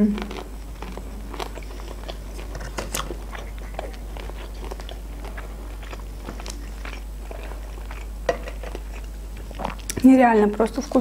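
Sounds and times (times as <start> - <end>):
crunching fried chicken: 0.0 - 10.1.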